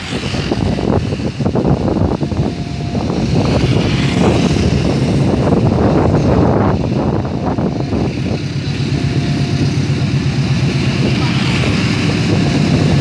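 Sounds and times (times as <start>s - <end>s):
road traffic rumble: 0.0s - 13.0s
wind buffeting microphone: 0.0s - 13.0s.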